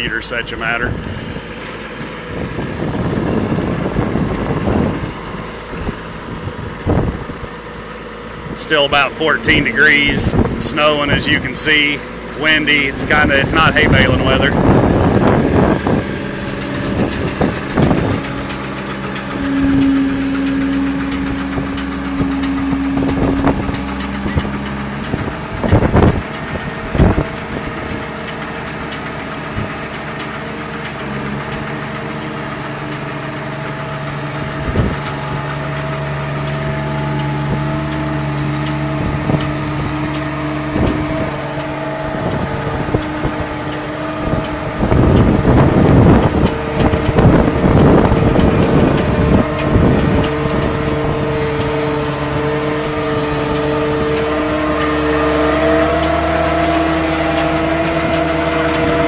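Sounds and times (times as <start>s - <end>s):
baler engine humming: 0.0s - 59.0s
machinery knocks and clanks: 0.0s - 59.0s.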